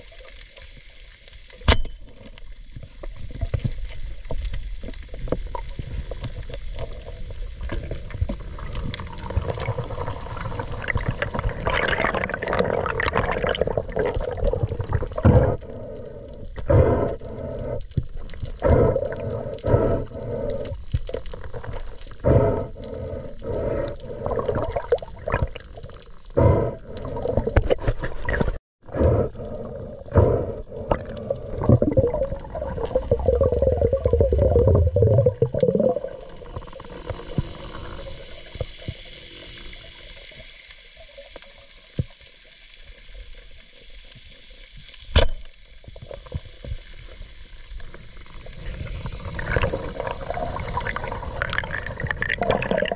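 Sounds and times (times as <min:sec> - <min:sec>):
muffled water sloshing and gurgling: 0:00.0 - 0:52.9.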